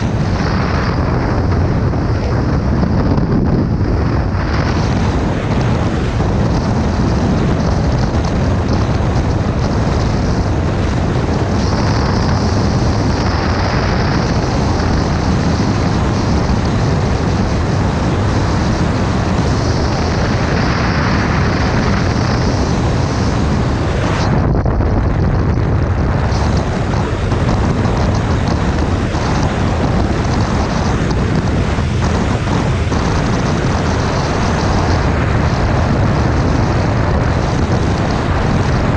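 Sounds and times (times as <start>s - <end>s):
motorcycle engine droning: 0.0s - 38.9s
wind on microphone: 0.0s - 38.9s.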